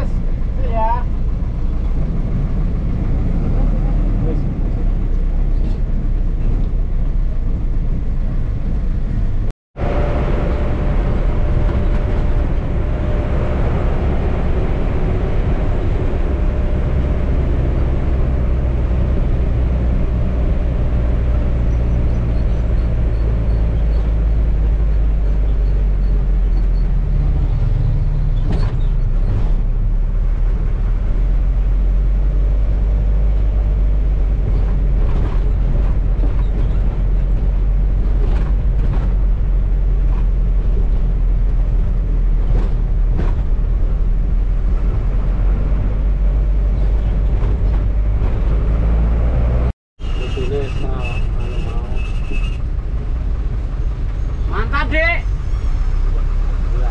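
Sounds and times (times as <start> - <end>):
bus engine rumble: 0.0 - 56.9
road noise: 0.0 - 56.9.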